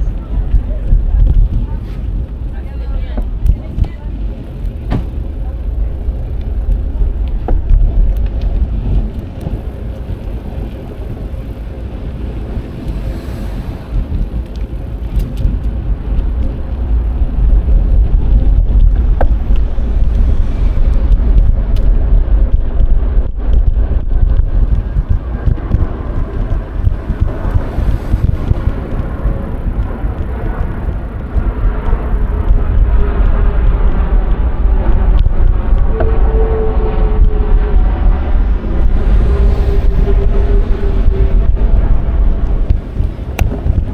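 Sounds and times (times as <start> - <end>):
tyre and road noise: 0.0 - 43.9
wind buffeting microphone: 0.0 - 43.9.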